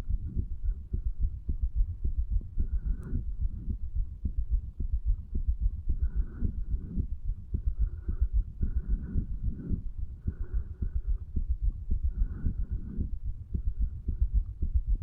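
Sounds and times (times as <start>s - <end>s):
heartbeat thuds: 0.0s - 15.0s.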